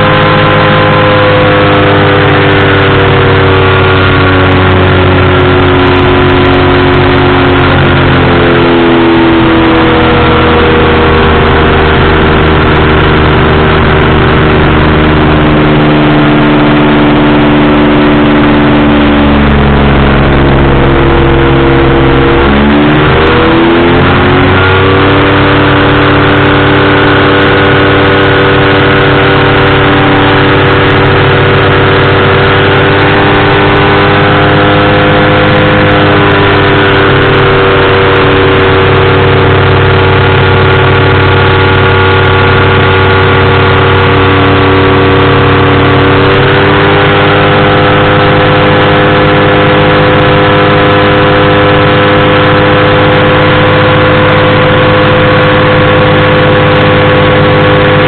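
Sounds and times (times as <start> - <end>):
engine and propeller running: 0.0 - 58.0.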